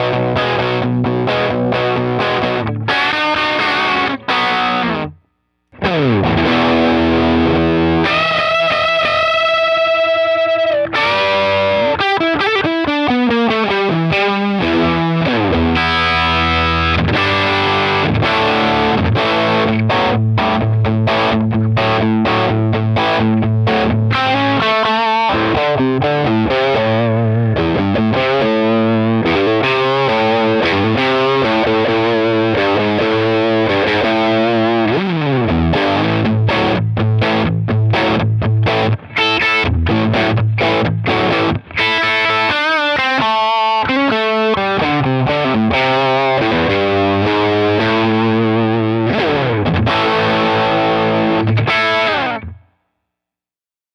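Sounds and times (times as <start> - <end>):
distorted electric guitar: 0.0 - 52.8.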